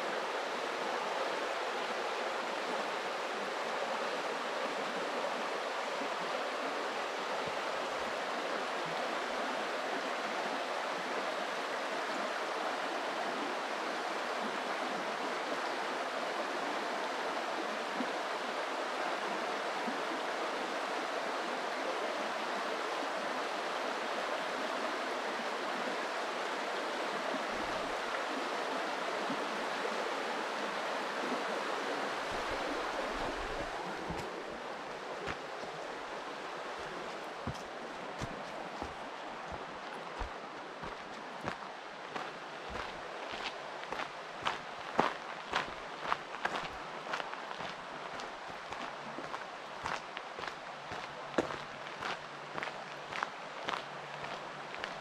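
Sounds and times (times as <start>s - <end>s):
water rushing over rapids: 0.0s - 55.0s.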